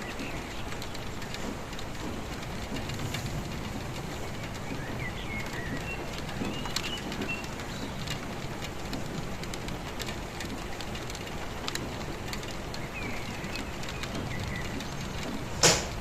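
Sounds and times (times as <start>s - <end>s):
rain dripping on hard surface: 0.0s - 16.0s.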